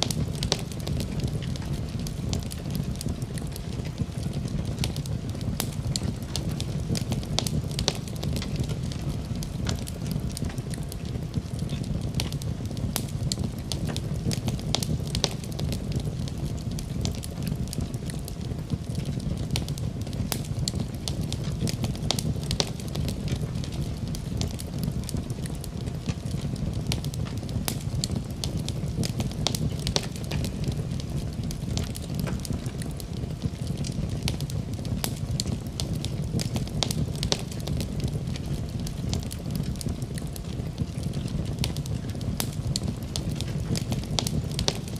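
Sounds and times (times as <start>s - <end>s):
fire crackles and pops: 0.0s - 44.9s
fire rumbling: 0.0s - 44.9s.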